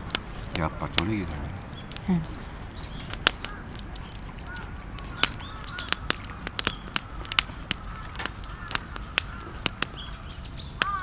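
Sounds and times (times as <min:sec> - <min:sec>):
meat crackling on grill: 0:00.0 - 0:11.0
faint bird calls: 0:00.5 - 0:11.0.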